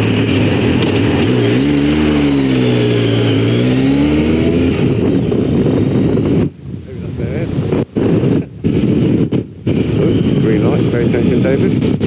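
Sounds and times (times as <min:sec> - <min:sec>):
motorcycle engine revving: 0:00.0 - 0:12.0
steady rush of noise: 0:00.0 - 0:12.0.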